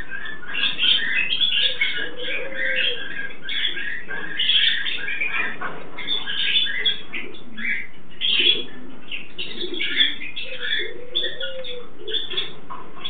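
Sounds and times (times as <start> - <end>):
parrots chirping and squawking: 0.0 - 13.0.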